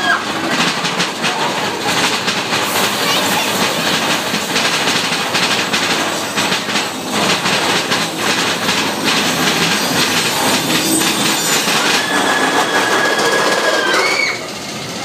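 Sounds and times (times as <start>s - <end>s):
roller coaster wheels rattling on rails: 0.0s - 15.0s.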